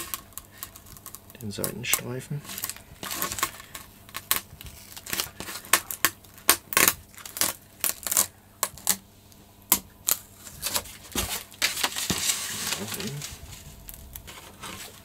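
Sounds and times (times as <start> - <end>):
film peeling with crackling clicks: 0.0 - 9.0, 9.7 - 15.0.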